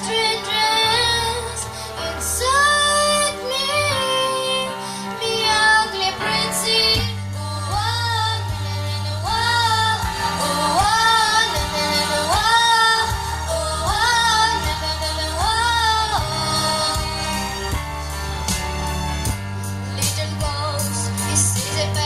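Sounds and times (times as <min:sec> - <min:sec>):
pop backing track: 0:00.0 - 0:22.0.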